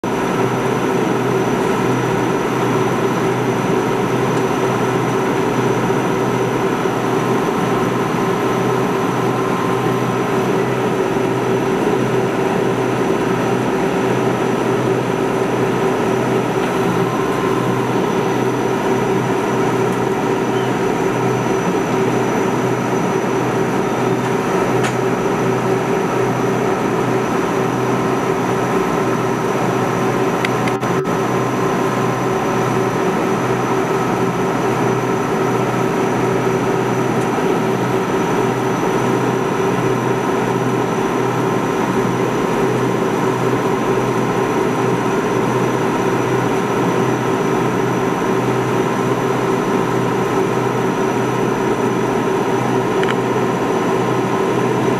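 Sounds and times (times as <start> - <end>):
ferry engines droning: 0.0 - 54.9.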